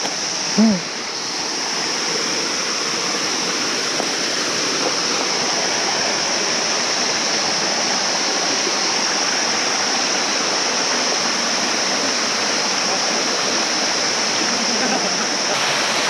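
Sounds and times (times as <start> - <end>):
stream cascading over rocks: 0.0 - 16.0.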